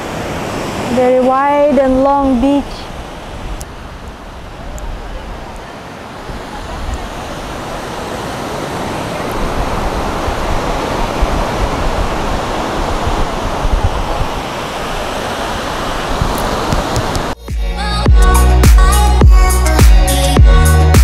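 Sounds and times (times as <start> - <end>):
ocean surf on a sandy beach: 0.0 - 17.4
wind buffeting microphone: 0.0 - 17.4.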